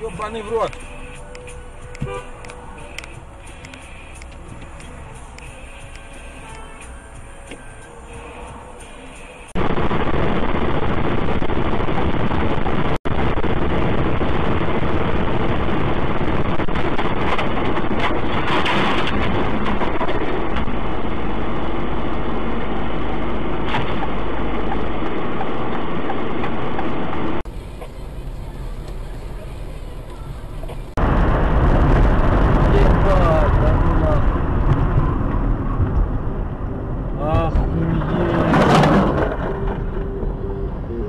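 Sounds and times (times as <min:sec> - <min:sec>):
vehicle road and engine noise: 0:00.0 - 0:09.7, 0:11.1 - 0:41.0.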